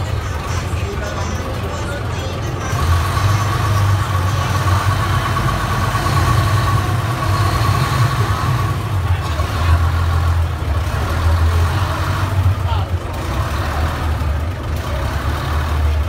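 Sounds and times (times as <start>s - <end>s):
boat engine humming: 0.0s - 16.0s
passengers murmuring: 0.0s - 16.0s.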